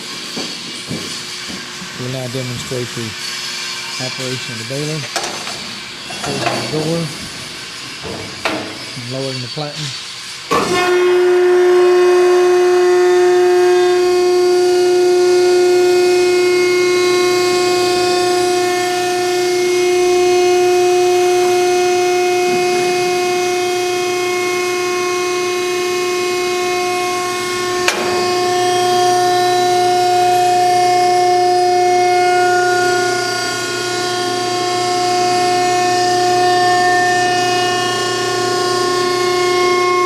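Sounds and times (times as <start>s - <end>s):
baler motor and hydraulic whine: 0.0s - 40.0s.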